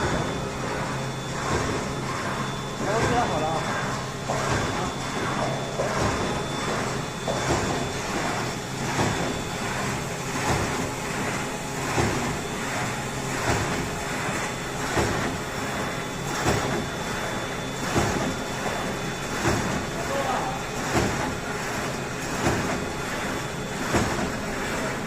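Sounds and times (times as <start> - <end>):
machine running: 0.0 - 25.0.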